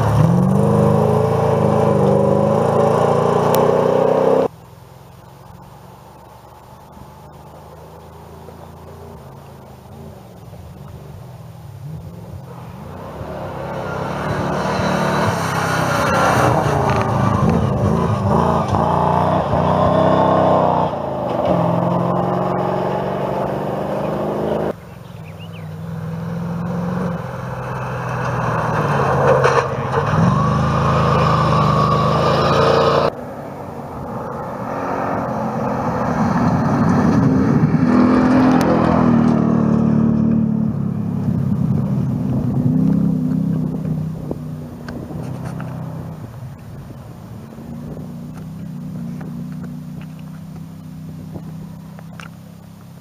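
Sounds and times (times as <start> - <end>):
rally truck engines revving: 0.0 - 4.5, 11.8 - 52.4.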